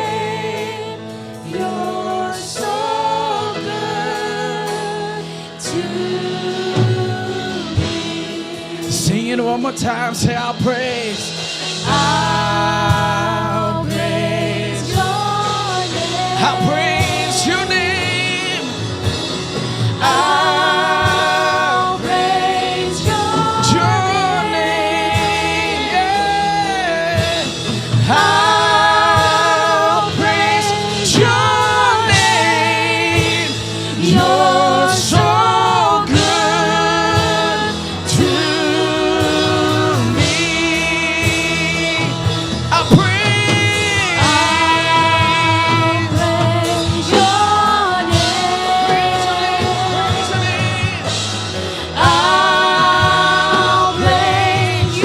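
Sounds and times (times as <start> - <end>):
band accompaniment: 0.0 - 55.0
voices singing praise song: 0.0 - 55.0.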